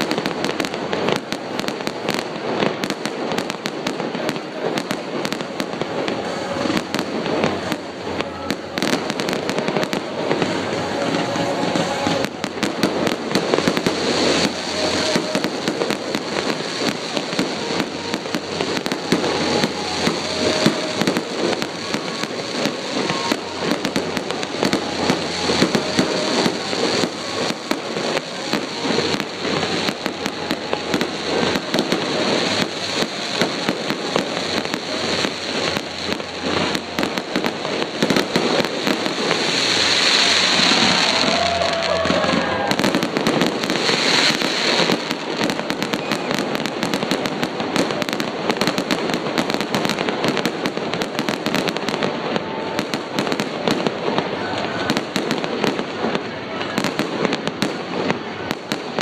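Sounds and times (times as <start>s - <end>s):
crackling pops: 0.0s - 59.0s.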